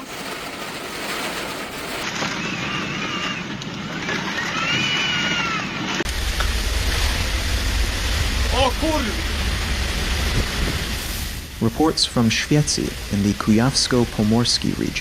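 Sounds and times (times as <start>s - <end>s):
storm wind and rain rushing: 0.0s - 15.0s
wind buffeting microphone: 0.2s - 15.0s.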